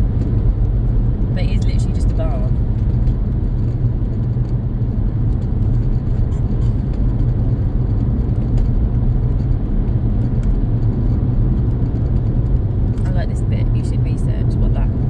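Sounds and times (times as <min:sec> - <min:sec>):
road and engine noise in car cabin: 0:00.0 - 0:15.0.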